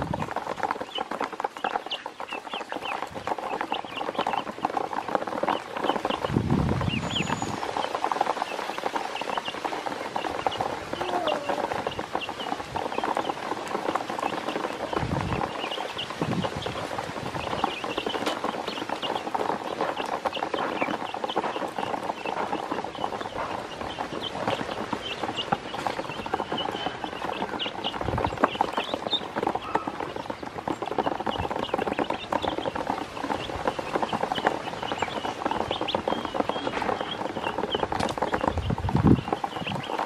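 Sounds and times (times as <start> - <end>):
ducklings peeping: 0.0 - 40.0
patter of bills and feet: 0.0 - 40.0.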